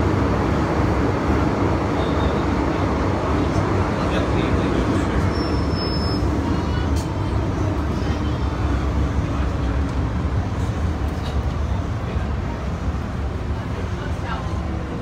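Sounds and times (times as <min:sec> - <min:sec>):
faint train whine: 0:00.0 - 0:15.0
wheels rumbling on rail: 0:00.0 - 0:15.0.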